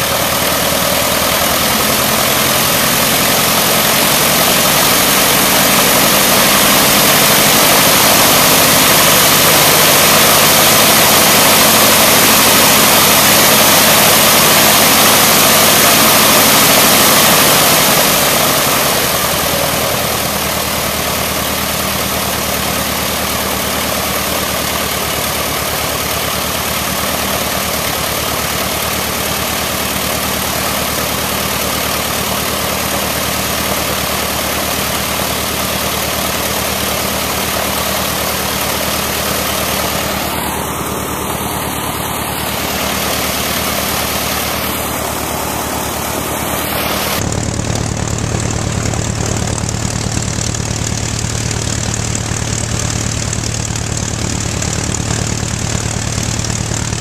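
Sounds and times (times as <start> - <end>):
aircraft engine idling: 0.0 - 57.0.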